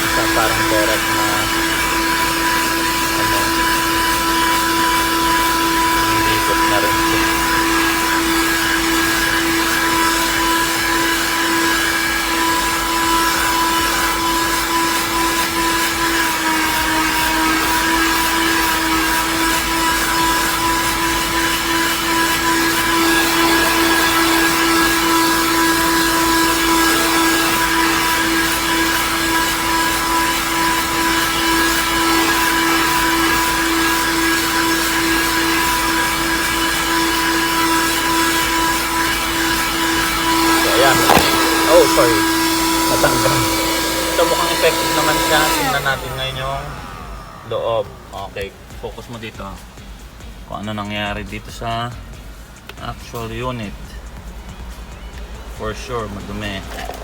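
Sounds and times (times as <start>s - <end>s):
handheld vacuum cleaner running: 0.0s - 49.8s, 56.1s - 57.0s.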